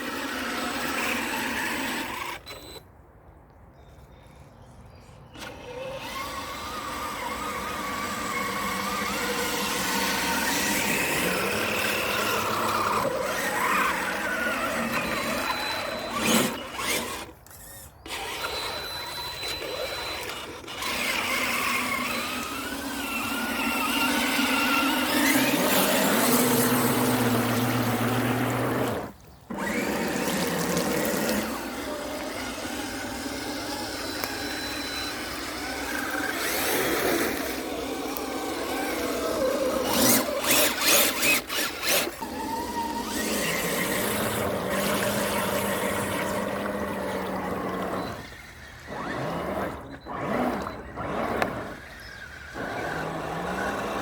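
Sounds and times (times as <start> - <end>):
toy crawler motor and gears whining: 0.0 - 2.8, 5.4 - 54.0.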